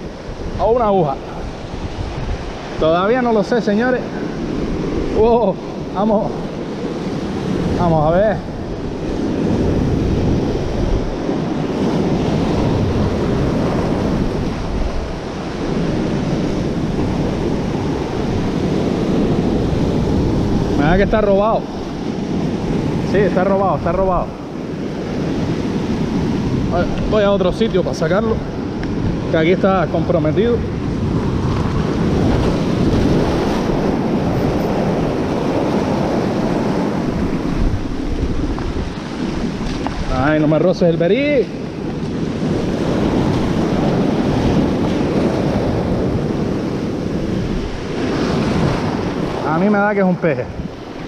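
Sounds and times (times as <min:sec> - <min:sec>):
surf breaking on rocks: 0:00.0 - 0:51.0
wind noise on microphone: 0:00.0 - 0:51.0.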